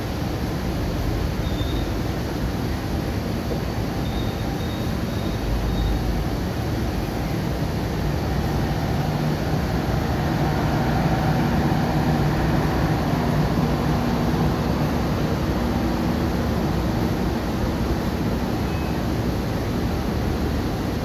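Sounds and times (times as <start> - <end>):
train wheels rolling on track: 0.0 - 21.0.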